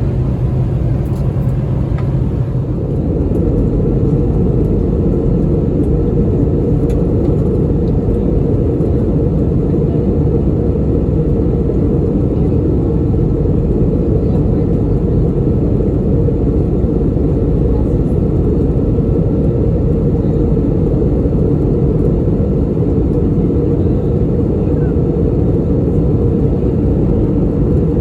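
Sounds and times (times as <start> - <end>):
airplane cabin roar: 0.0 - 28.0.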